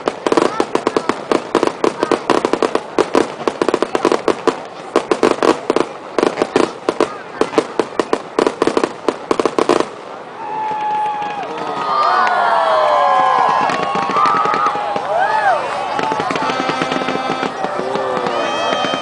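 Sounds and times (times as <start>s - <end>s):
fireworks barrage: 0.0s - 19.0s.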